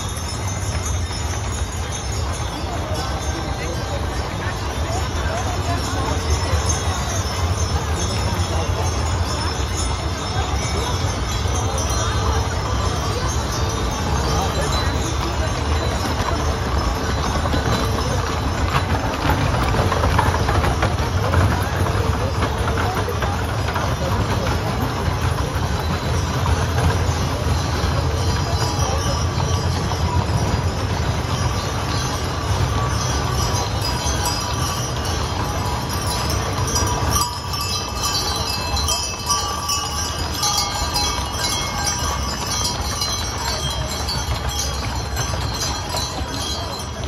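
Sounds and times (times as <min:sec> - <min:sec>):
crowd murmur: 0:00.0 - 0:47.0
harness chains jingling: 0:00.0 - 0:47.0
wagon wheels rolling on cobblestones: 0:00.0 - 0:47.0.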